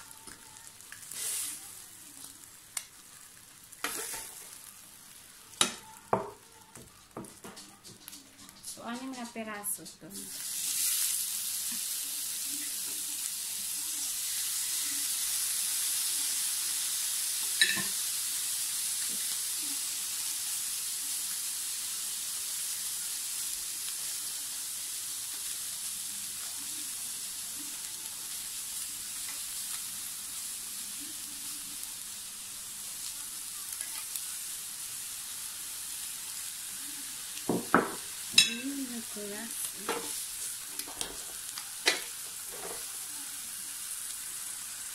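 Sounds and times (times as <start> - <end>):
ribs sizzling on a grill: 0.0 - 44.9.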